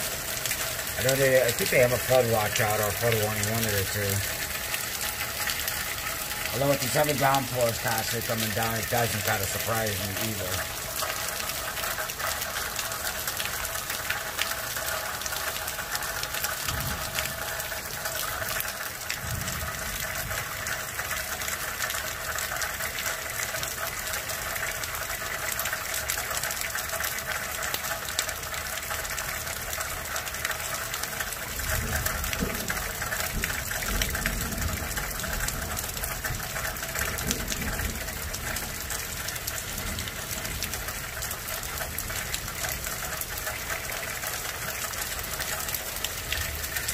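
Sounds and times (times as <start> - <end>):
rain pouring: 0.0 - 46.9.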